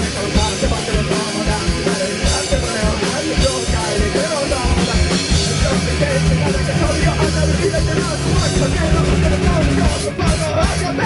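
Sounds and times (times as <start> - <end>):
distorted electric guitars: 0.0 - 11.0
drum kit: 0.0 - 11.0.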